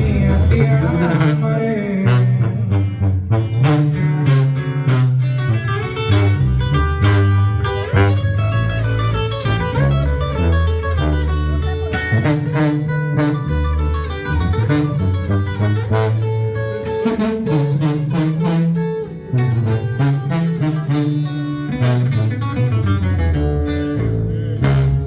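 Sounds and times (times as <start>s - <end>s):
plucked guitars: 0.0s - 25.0s
tuba bass line: 0.0s - 25.0s.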